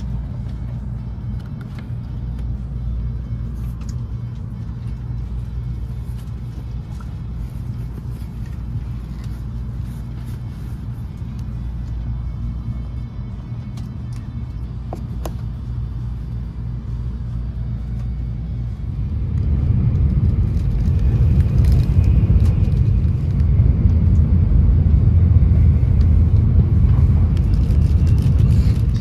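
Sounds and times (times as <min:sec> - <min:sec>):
train running low rumble: 0:00.0 - 0:29.0.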